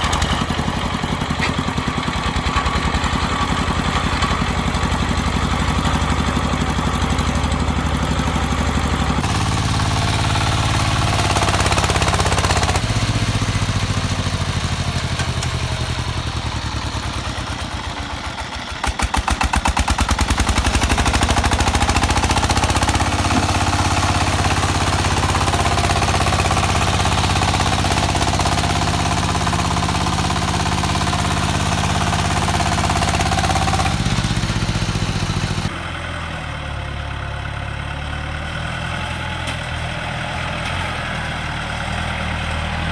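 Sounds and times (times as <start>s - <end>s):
diesel tractor engines chugging: 0.0s - 42.9s.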